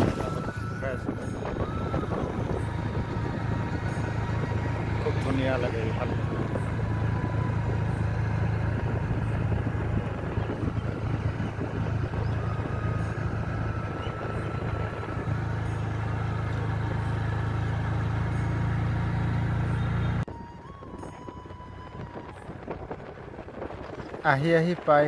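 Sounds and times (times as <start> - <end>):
wind rushing over microphone: 0.0 - 18.0, 20.3 - 25.0
vehicle engine drone: 0.0 - 25.0.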